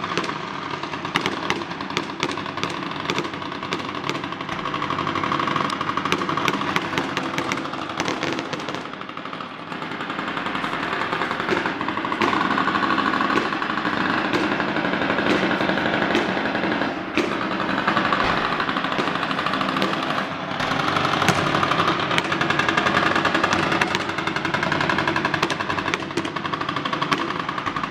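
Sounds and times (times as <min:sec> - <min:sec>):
fireworks crackling and popping: 0:00.0 - 0:27.9
loud firework reports: 0:00.0 - 0:27.9.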